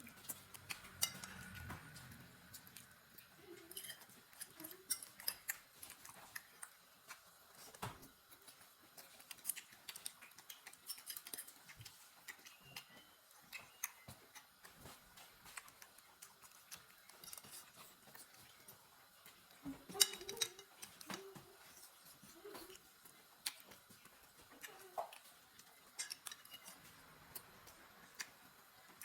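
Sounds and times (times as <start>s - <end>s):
chewing smacks: 0.0s - 29.0s.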